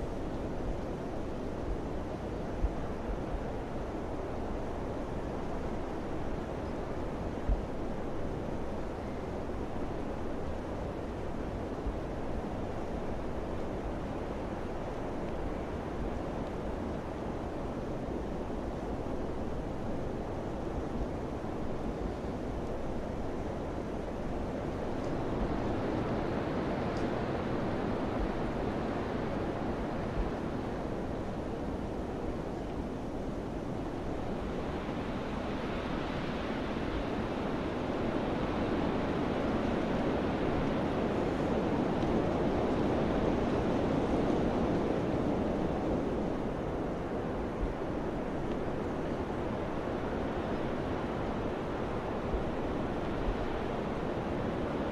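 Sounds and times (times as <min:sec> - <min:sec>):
rushing wind: 0:00.0 - 0:54.9.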